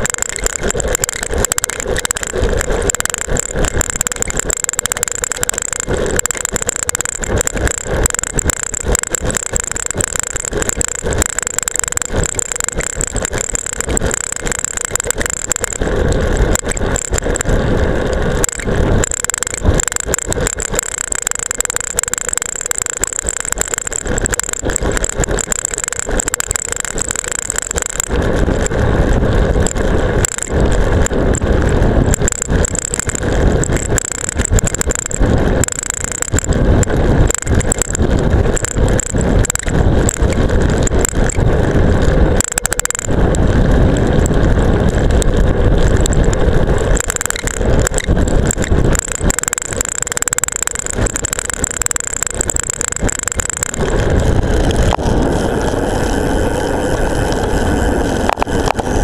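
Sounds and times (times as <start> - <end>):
camera rattling against mount: 0.0 - 17.6, 18.4 - 31.4, 32.0 - 41.7, 44.1 - 55.1
wind rumble on microphone: 0.0 - 59.0.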